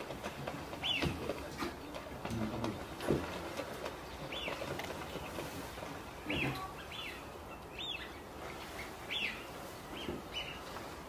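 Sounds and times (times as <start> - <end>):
outdoor background hiss: 0.0 - 11.0
bird chirping: 0.6 - 1.3, 2.6 - 10.9.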